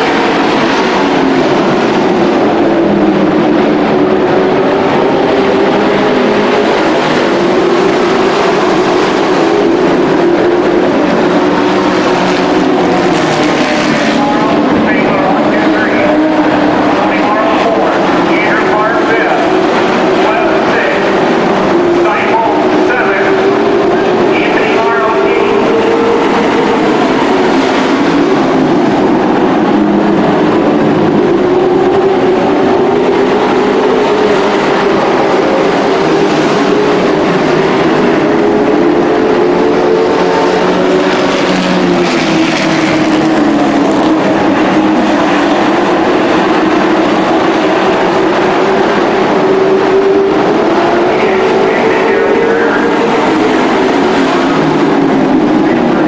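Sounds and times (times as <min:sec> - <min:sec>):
race truck engines droning: 0:00.0 - 0:56.0.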